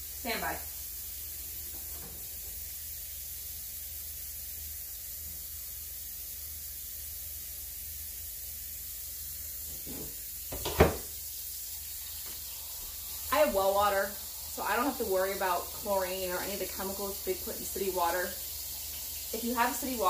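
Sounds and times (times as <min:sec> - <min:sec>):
faucet water filling a pot: 0:00.0 - 0:20.0.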